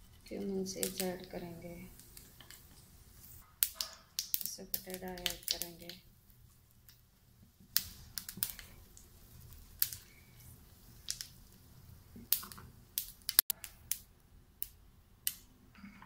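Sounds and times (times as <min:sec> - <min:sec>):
seeds crackling in hot oil: 0:00.0 - 0:15.5
sharp pops: 0:00.0 - 0:15.5.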